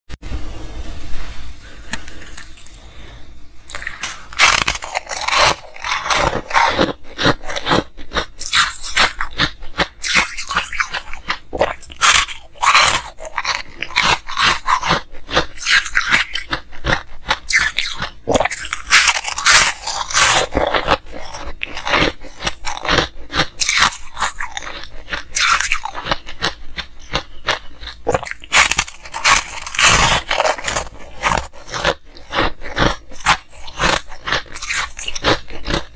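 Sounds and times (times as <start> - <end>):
ice crunching when chewed: 3.7 - 35.9.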